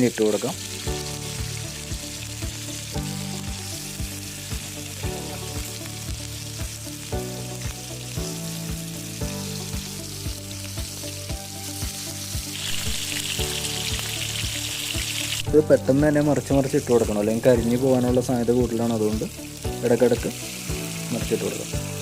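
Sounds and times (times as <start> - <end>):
prawns sizzling in a pan: 0.0 - 22.0
background music with beat: 0.6 - 22.0.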